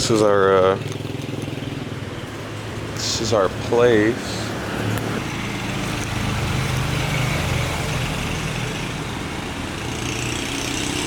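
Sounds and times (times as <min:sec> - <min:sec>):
motorbike engine running: 0:00.0 - 0:11.0
road noise: 0:00.0 - 0:11.0.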